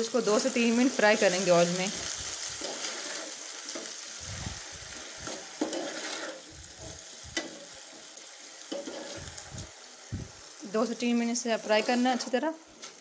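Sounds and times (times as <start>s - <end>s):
potatoes sizzling in hot oil: 0.0s - 13.0s
spoon scraping a pan: 0.6s - 10.6s, 11.4s - 13.0s.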